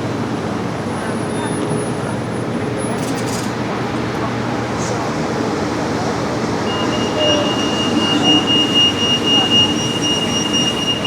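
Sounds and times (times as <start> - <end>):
crowd noise: 0.0 - 11.0
street traffic: 0.0 - 11.0.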